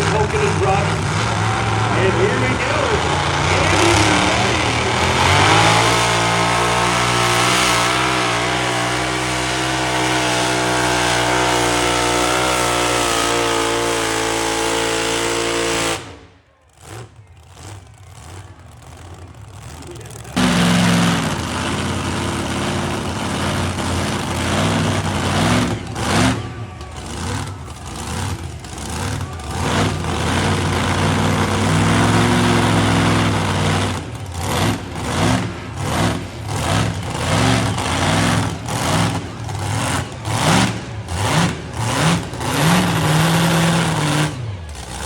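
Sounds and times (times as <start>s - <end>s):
heavy engine revving: 0.0s - 45.0s.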